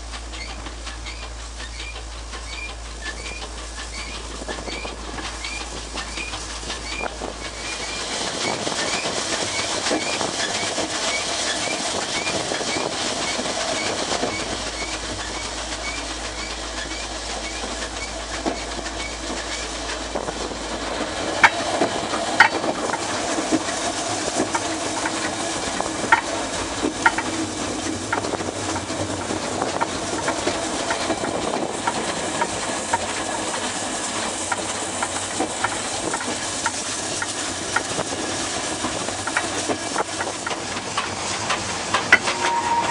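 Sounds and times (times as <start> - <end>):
steam hissing: 0.0 - 42.9
train wheels clanking over rail joints: 0.0 - 42.9.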